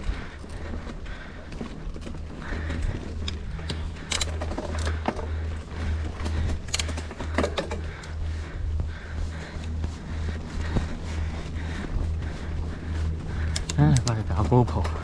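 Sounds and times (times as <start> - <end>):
bike rattling clicks and knocks: 0.0 - 15.0
bike rumbling over rough trail: 0.0 - 15.0.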